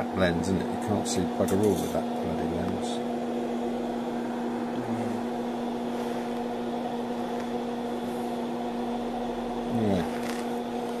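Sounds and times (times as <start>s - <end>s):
welding set electrical hum: 0.0s - 11.0s.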